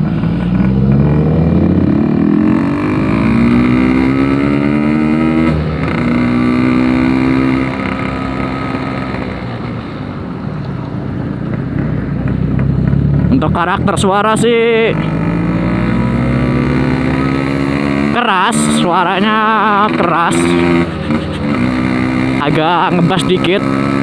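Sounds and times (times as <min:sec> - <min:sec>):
motorcycle engine revving: 0:00.0 - 0:10.0, 0:11.3 - 0:24.0.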